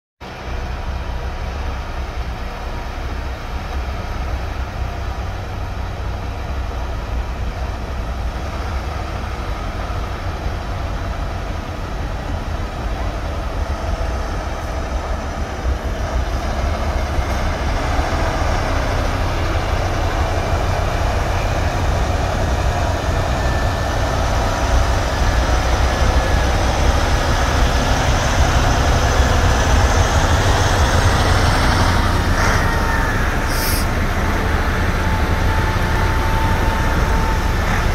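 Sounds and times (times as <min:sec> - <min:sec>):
dump truck engine passing: 0:00.3 - 0:37.9.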